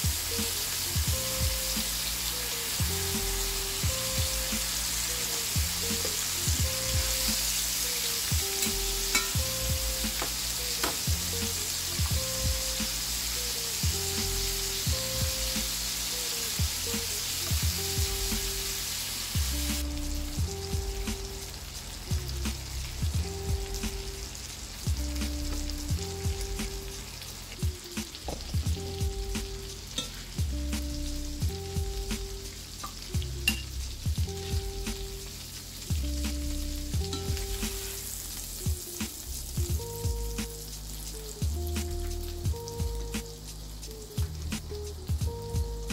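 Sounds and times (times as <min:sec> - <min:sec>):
background music with bass: 0:00.0 - 0:45.9
pork chops sizzling in butter: 0:00.0 - 0:45.9.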